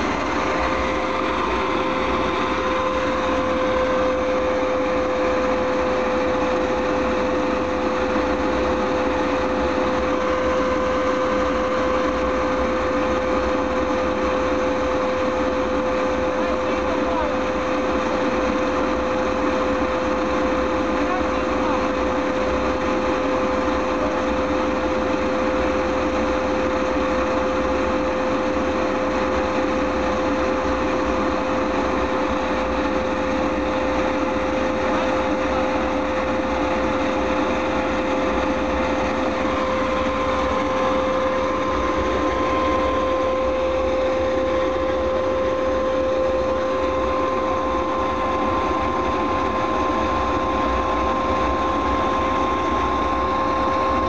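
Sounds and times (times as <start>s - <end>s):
higher jet engine whine: 0.0s - 54.0s
jet engine whine and rush: 0.0s - 54.0s.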